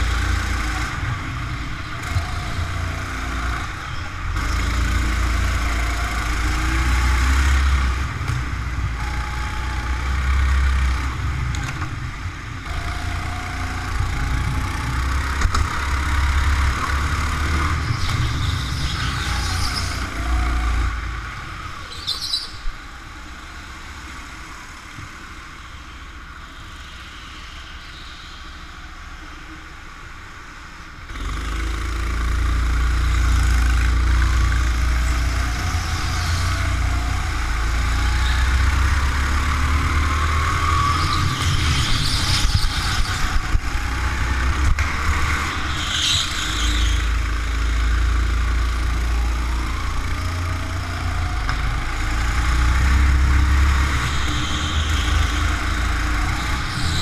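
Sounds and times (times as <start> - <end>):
go-kart motor accelerating: 0.0 - 25.7, 31.0 - 57.0.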